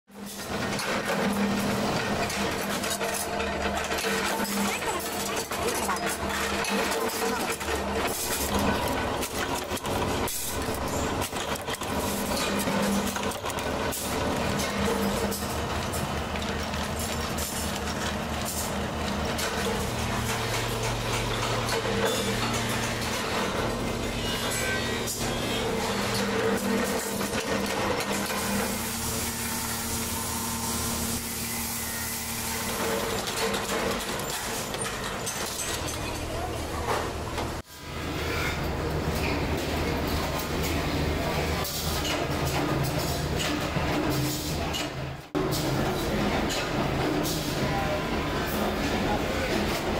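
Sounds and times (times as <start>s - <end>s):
machinery motor hum: 0.2s - 44.3s.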